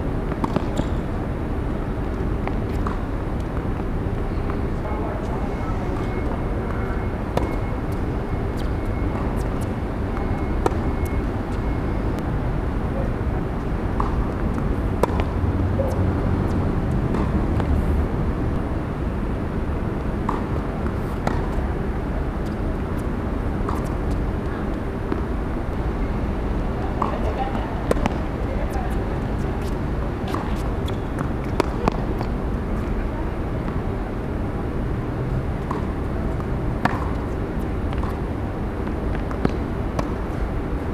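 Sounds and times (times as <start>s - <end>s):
tennis ball hits and bounces: 0.3s - 12.3s, 13.6s - 17.8s, 20.0s - 25.4s, 26.8s - 33.0s, 35.5s - 40.5s.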